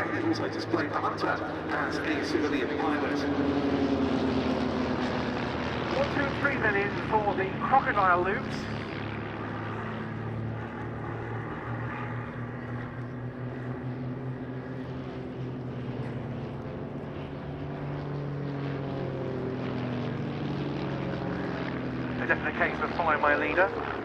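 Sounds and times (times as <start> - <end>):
propeller aircraft engines droning: 0.0 - 24.0.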